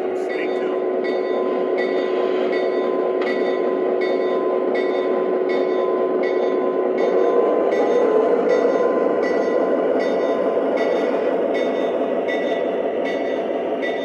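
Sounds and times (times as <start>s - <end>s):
model locomotive engine humming: 0.0s - 14.0s.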